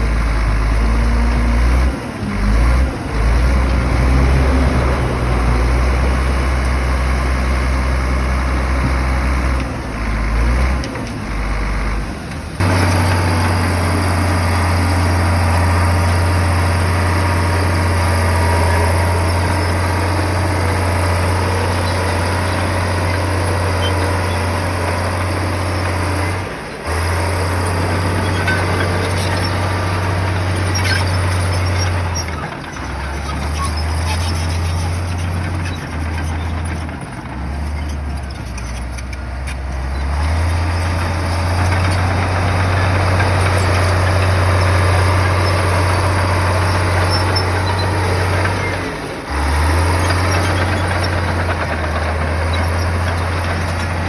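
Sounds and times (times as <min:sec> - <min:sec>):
diesel earthmoving machinery running: 0:00.0 - 0:54.0.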